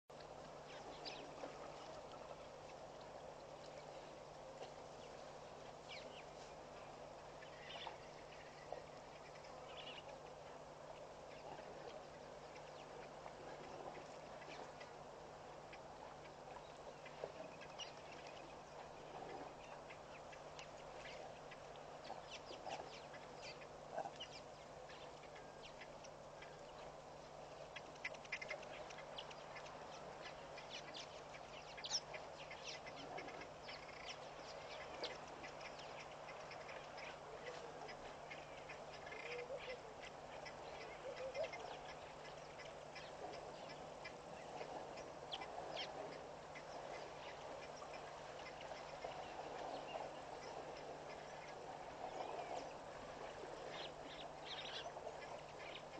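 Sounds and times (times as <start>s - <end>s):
steady low background hiss: 0.1s - 55.9s
steady low hum: 0.1s - 55.9s
bird calls and chirps: 4.9s - 10.2s, 15.6s - 55.9s.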